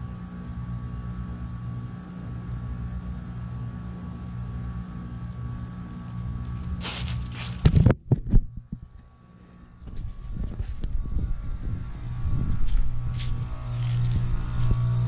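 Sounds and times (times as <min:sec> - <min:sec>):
heat pump compressor hum: 0:00.0 - 0:15.0.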